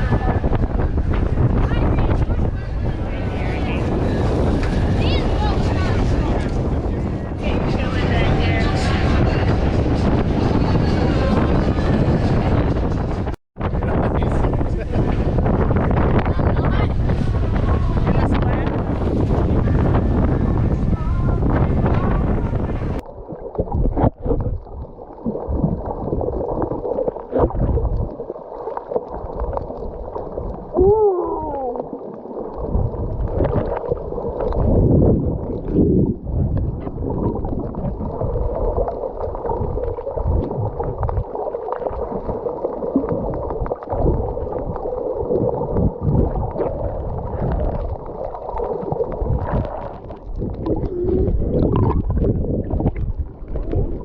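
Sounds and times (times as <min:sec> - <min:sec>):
water gurgling underwater: 0:00.0 - 0:12.8, 0:14.9 - 0:54.0.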